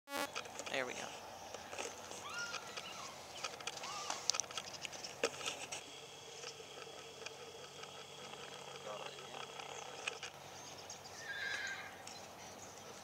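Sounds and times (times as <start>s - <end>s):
outdoor ambience: 0.1s - 13.0s
faint animal calls: 0.9s - 5.2s, 6.7s - 13.0s.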